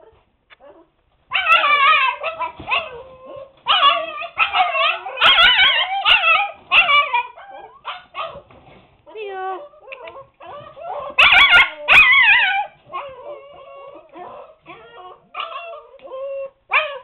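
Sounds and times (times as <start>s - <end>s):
puppies crying: 0.6s - 8.5s, 9.6s - 17.0s.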